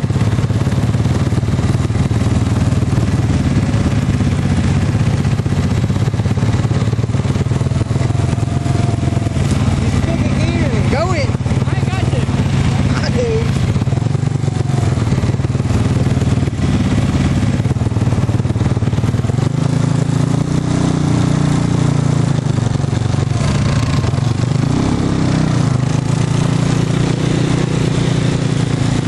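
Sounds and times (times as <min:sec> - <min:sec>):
utility vehicle engine revving: 0:00.0 - 0:29.0.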